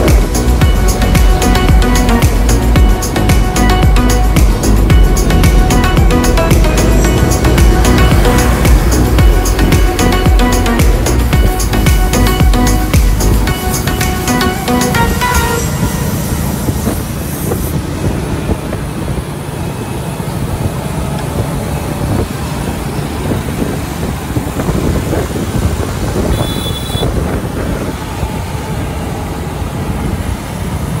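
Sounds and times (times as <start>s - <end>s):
heavy traffic rumble: 0.0s - 31.0s.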